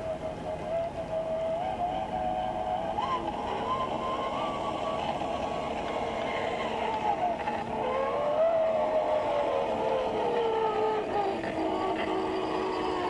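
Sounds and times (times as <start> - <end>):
electric motor whine: 0.0 - 13.0
steady rushing noise: 0.0 - 13.0.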